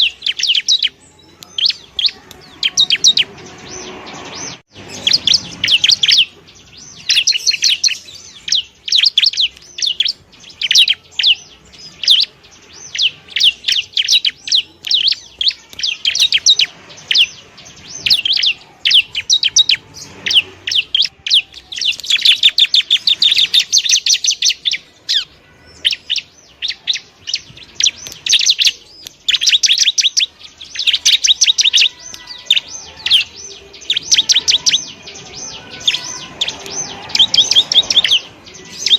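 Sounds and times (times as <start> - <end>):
bird chirps and trills: 0.0 - 38.9.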